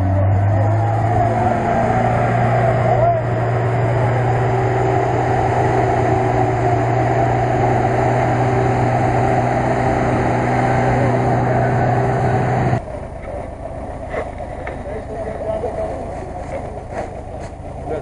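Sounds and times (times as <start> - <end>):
truck engine running steadily: 0.0 - 18.0.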